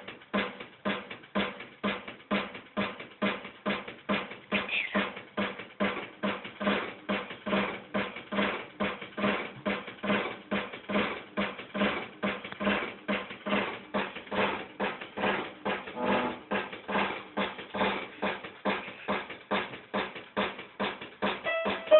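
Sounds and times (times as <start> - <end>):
steady deep drum beat: 0.0 - 21.9.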